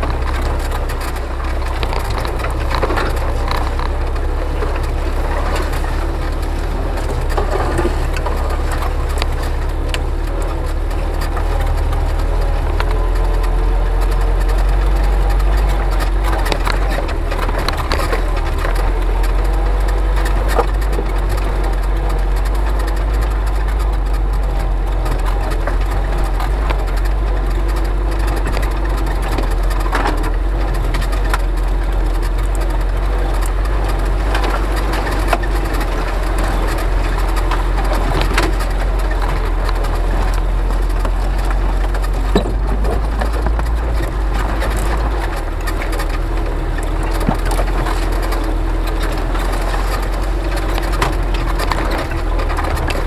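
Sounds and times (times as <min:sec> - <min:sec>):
branches scraping and snapping: 0:00.0 - 0:53.0
vehicle engine low rumble: 0:00.0 - 0:53.0.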